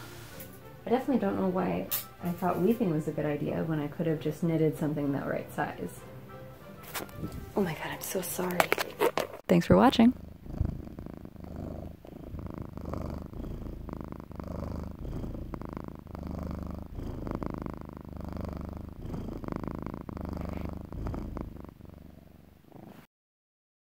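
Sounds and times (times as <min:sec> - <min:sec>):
cat purring: 0:00.2 - 0:06.0, 0:06.9 - 0:23.1.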